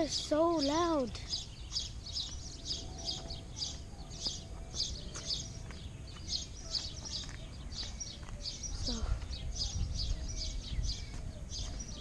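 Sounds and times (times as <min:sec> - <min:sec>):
birds chirping loudly: 0:00.0 - 0:12.0.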